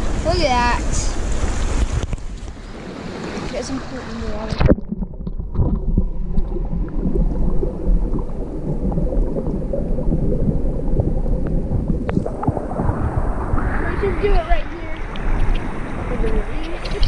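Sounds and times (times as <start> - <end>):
muffled underwater current rumble: 0.9 - 17.0.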